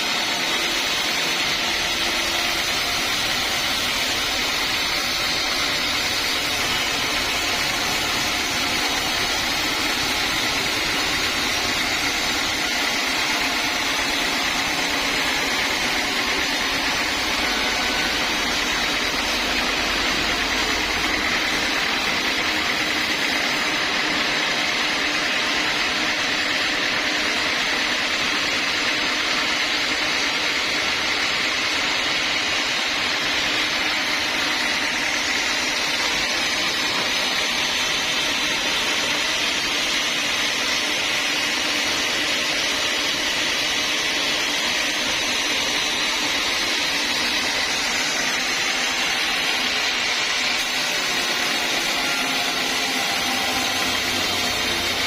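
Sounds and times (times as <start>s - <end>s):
sawmill saw whining: 0.0s - 55.0s.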